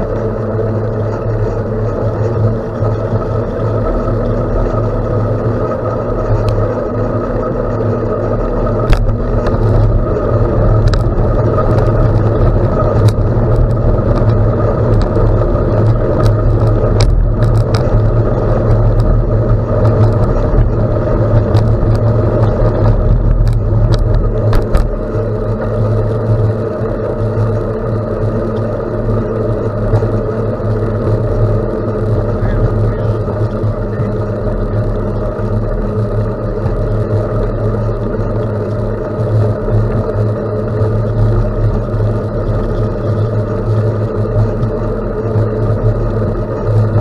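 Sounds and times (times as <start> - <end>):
bicycle tyre noise on gravel: 0.0 - 47.0
sharp clicks and rattles: 0.0 - 47.0
wind rumble on microphone: 0.0 - 47.0.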